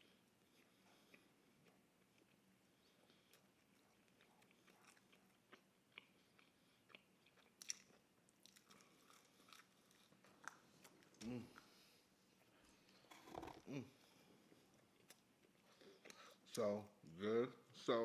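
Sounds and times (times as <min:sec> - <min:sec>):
person chewing pizza: 0:00.0 - 0:16.8.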